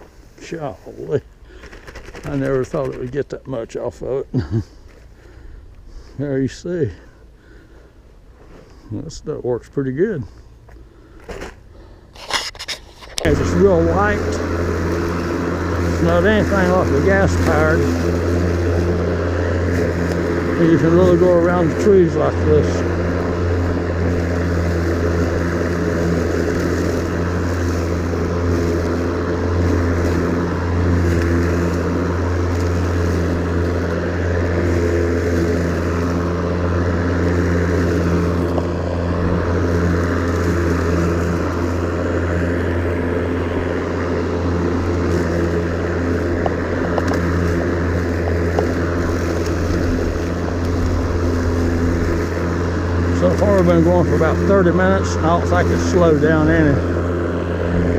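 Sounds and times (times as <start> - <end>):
electric lawn mower running: 0.0 - 8.8, 9.9 - 57.9.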